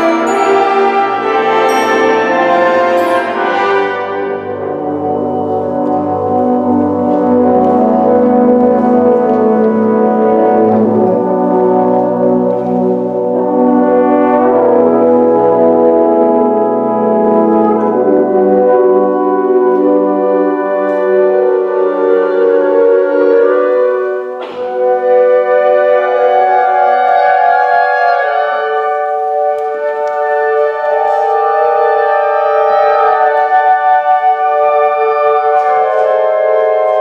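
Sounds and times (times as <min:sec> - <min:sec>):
wind band playing chords: 0:00.0 - 0:37.0.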